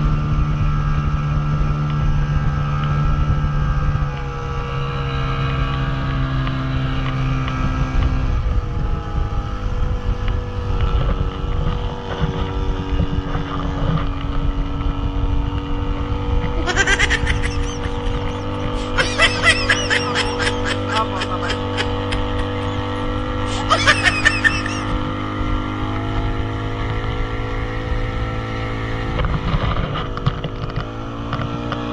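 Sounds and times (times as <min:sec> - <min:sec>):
motorboat engine running: 0:05.5 - 0:28.4, 0:29.0 - 0:31.9.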